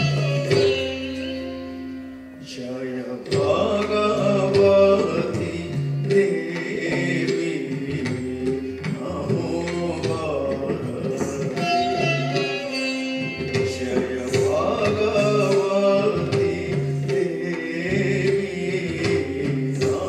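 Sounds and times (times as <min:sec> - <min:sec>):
plucked strings: 0:00.0 - 0:20.0.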